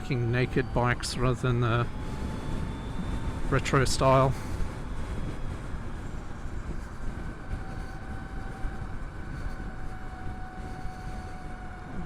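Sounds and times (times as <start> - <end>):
faint electric motor whine: 0.0 - 12.0
road noise: 0.0 - 12.0
wind rush: 0.0 - 12.0.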